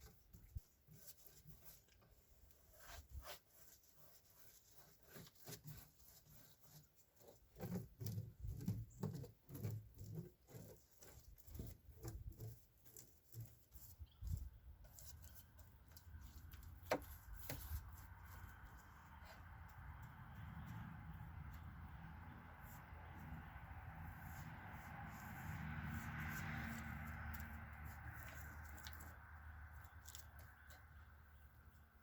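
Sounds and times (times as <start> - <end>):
rubbing and scraping: 0.0 - 31.0.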